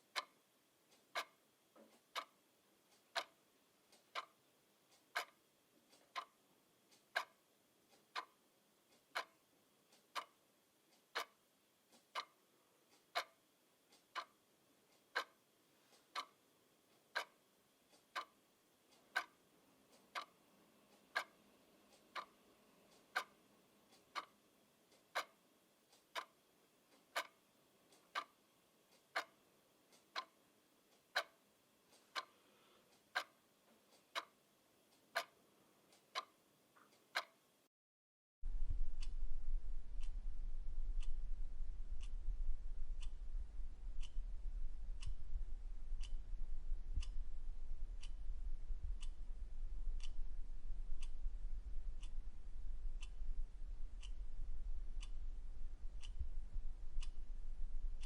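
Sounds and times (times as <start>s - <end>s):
clock ticking: 0.0s - 37.5s, 38.5s - 58.0s.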